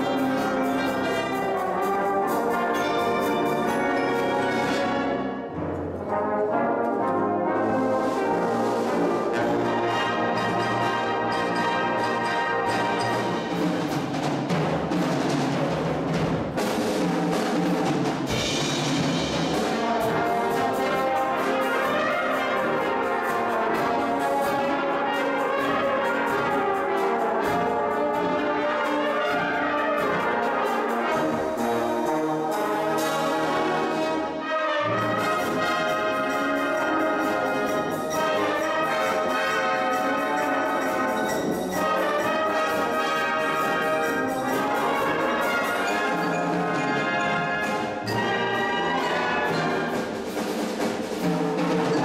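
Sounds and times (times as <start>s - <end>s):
percussion strikes: 0.0s - 7.3s, 8.9s - 34.2s, 34.8s - 52.0s
brass band playing: 0.0s - 52.0s.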